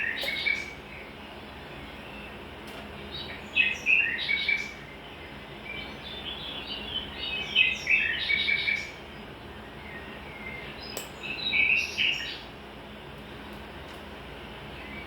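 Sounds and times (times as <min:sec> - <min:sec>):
small birds chirping: 0:00.0 - 0:12.6, 0:14.5 - 0:15.0.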